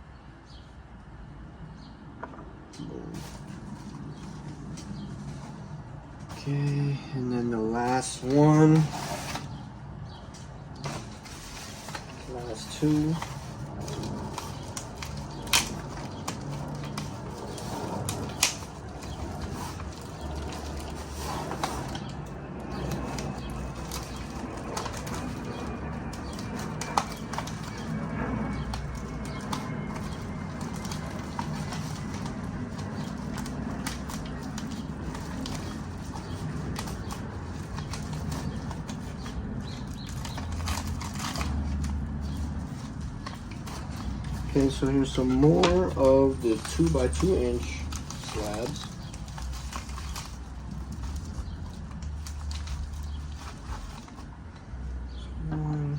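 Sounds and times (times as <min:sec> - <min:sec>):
low hum: 0:01.2 - 0:55.9
packaging rustling: 0:02.8 - 0:06.5, 0:07.6 - 0:54.5.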